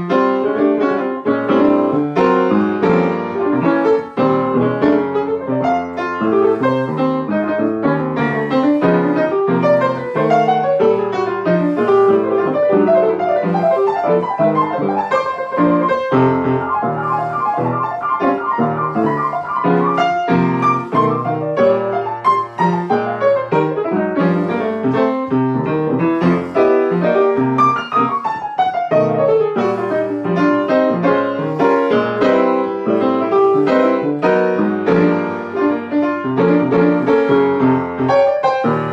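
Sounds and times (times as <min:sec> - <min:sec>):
solo jazz piano: 0:00.0 - 0:38.9.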